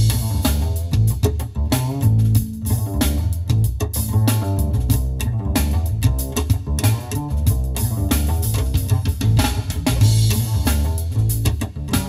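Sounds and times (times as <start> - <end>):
jazz fusion music over car audio: 0.0 - 12.0.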